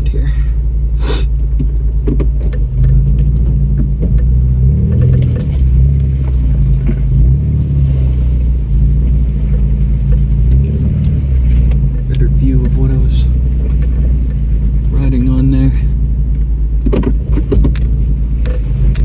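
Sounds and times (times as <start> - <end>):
off-road vehicle engine: 0.0 - 19.0.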